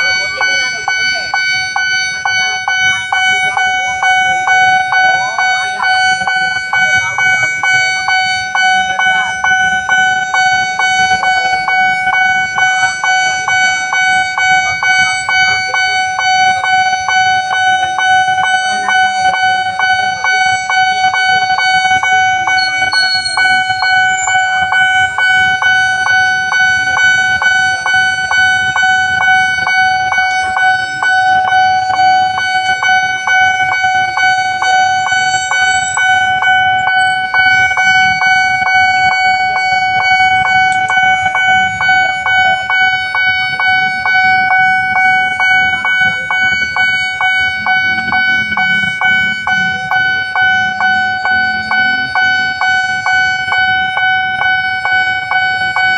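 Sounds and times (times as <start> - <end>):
level crossing alarm tone: 0.0 - 55.9.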